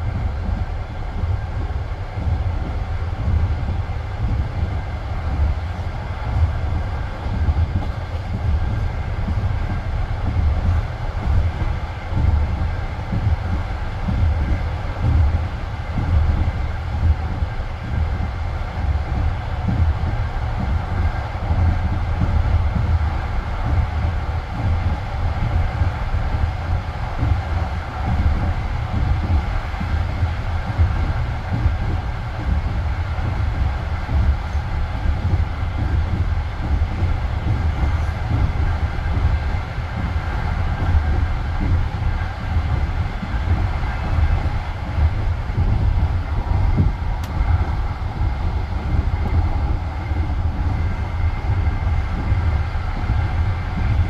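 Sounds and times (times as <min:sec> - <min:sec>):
faint steady hum: 0:00.0 - 0:54.0
train wheels rumbling on rails: 0:00.0 - 0:54.0.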